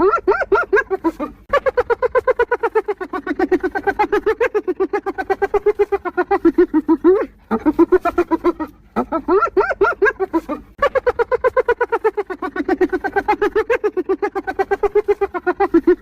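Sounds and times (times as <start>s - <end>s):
hyena giggling: 0.0s - 16.0s.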